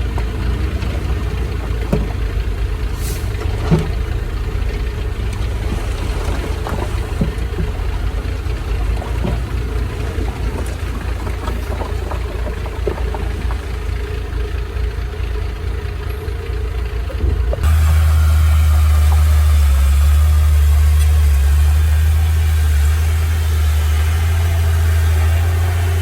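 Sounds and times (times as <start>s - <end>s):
heavy machine engine idling: 0.0s - 26.0s.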